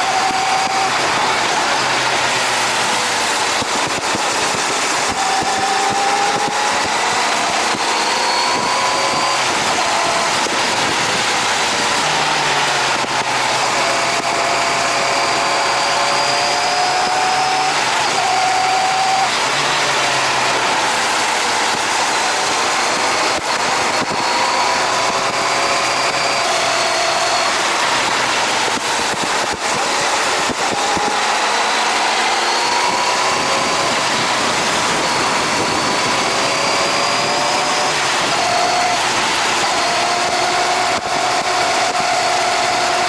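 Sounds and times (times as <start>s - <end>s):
motorcycle engine while riding: 0.0s - 43.0s
wind rush: 0.0s - 43.0s.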